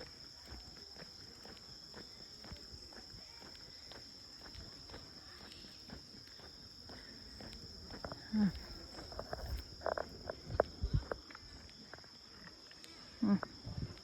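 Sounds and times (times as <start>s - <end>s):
footsteps on a trail: 0.0s - 14.0s
insect chorus: 0.0s - 14.0s.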